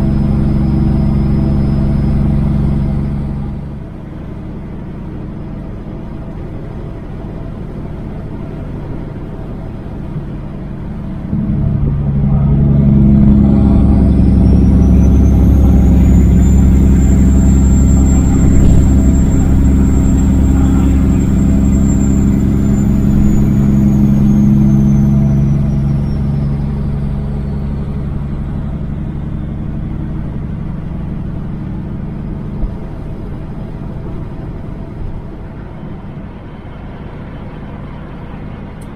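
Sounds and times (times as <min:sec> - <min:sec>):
diesel truck engine under load: 0:00.0 - 0:38.9
turbo whine: 0:00.0 - 0:38.9.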